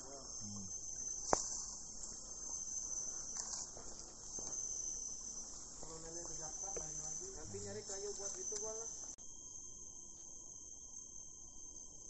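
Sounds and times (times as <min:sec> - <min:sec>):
forest insects chorus: 0:00.0 - 0:12.0.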